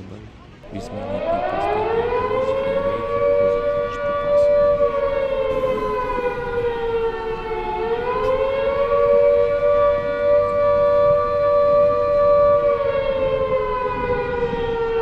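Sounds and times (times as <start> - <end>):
warning siren wailing: 0.0 - 15.0.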